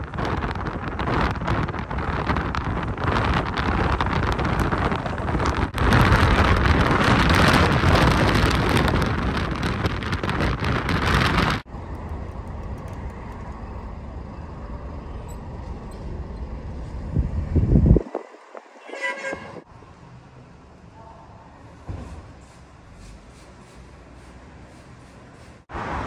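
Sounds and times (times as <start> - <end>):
city traffic hum: 0.0 - 26.0
wind and road noise: 0.0 - 26.0.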